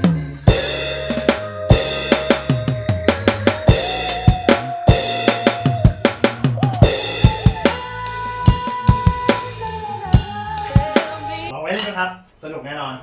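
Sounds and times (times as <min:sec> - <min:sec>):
electronic drum kit groove: 0:00.0 - 0:11.5
soul song backing track: 0:00.0 - 0:11.5.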